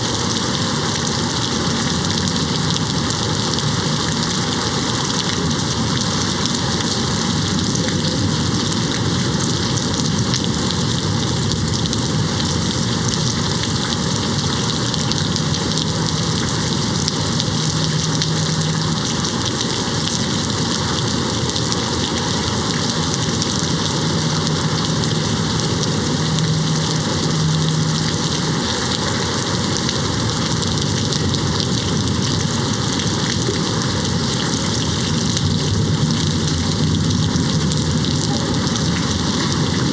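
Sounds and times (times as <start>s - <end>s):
rain pattering on window: 0.0s - 39.9s.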